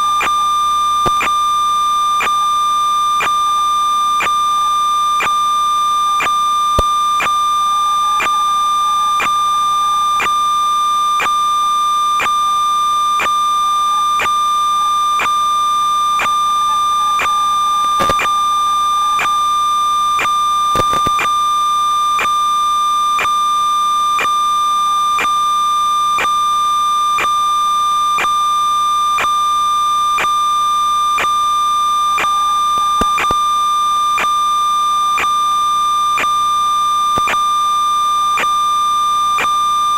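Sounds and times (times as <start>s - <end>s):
crackles: 0.0s - 22.4s, 24.0s - 39.9s.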